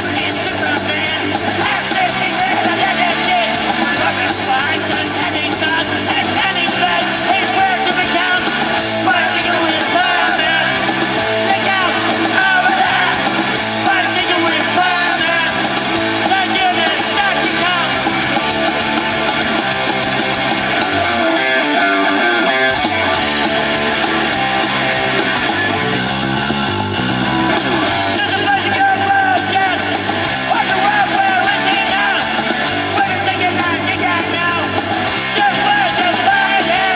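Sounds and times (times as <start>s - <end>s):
male lead singer: 0.0s - 26.6s, 27.3s - 36.9s
rock band playing live: 0.0s - 36.9s.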